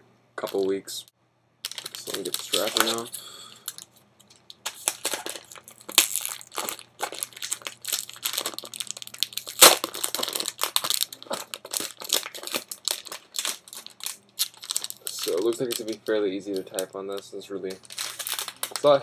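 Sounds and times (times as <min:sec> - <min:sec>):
plastic wrapper crinkling: 0:01.6 - 0:19.0.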